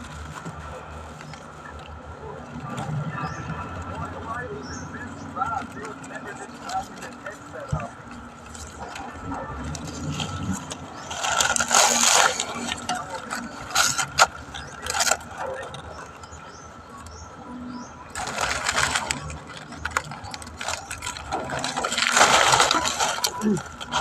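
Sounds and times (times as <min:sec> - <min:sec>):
dry leaf midribs scraping: 0:00.0 - 0:24.0.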